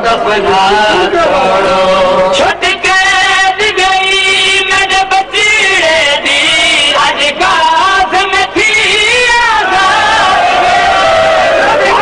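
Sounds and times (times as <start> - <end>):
man chanting a lament: 0.0 - 9.9.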